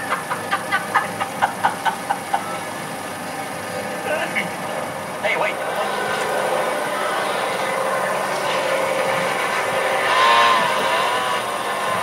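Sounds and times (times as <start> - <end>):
film soundtrack drone: 0.0 - 12.0.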